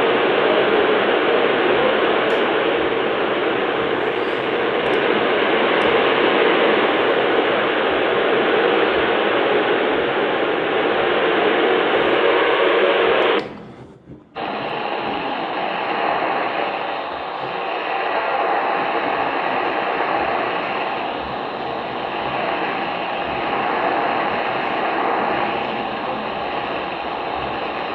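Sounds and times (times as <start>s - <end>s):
radio static hiss: 0.0s - 27.9s
weak radio signal: 0.0s - 27.9s.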